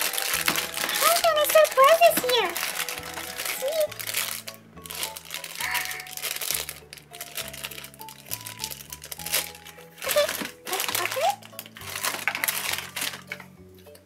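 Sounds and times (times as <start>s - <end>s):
background music: 0.0s - 14.0s
plastic wrappers crinkling: 0.0s - 14.0s.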